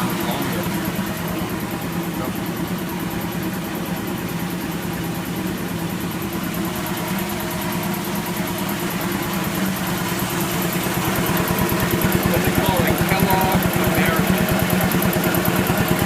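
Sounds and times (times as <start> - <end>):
piston air compressor running: 0.0 - 16.0.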